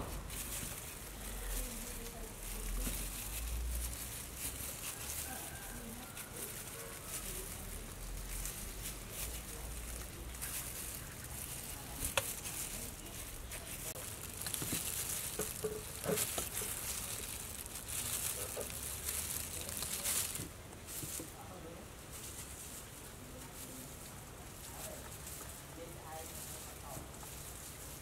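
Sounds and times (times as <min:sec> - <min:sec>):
plastic glove crinkling: 0:00.0 - 0:28.0.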